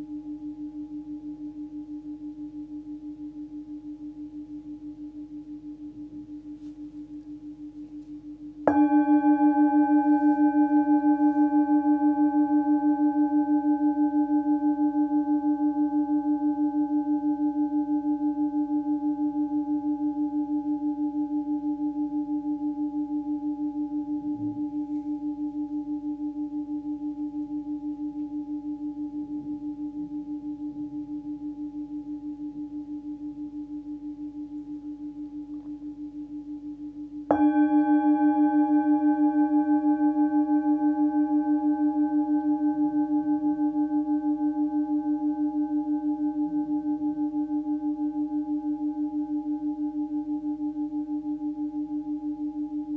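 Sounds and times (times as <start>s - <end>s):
singing bowl struck and ringing: 0.0s - 52.9s.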